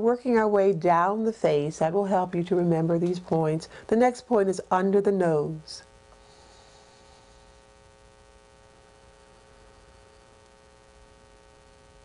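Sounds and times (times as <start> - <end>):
electrical hum: 0.0 - 12.0
low hiss: 0.0 - 12.0.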